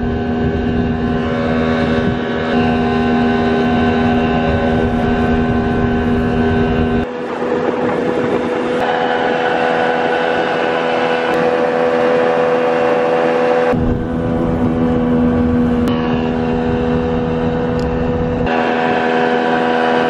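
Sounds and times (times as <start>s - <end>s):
higher steady tone: 0.0s - 20.0s
outboard motor running: 0.0s - 20.0s.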